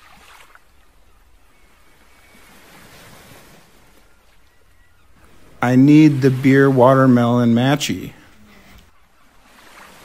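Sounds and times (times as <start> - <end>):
wind and water hiss: 0.0 - 10.0.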